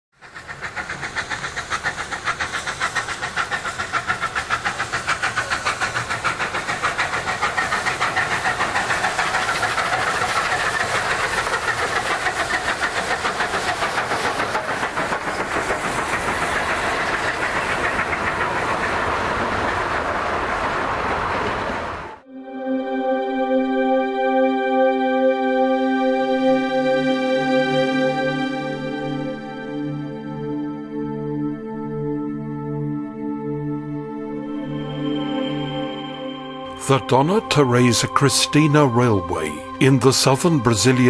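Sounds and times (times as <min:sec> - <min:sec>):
steam locomotive exhaust chuffing: 0:00.1 - 0:22.3, 0:23.1 - 0:41.0.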